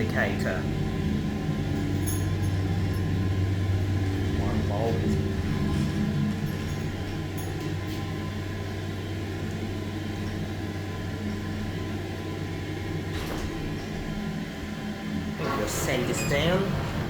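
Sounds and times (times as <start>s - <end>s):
lift motor humming: 0.0s - 17.0s.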